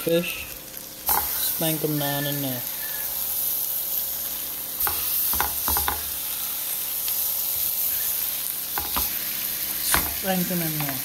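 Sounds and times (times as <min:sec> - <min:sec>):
fish and vegetables sizzling in a pan: 0:00.0 - 0:11.0.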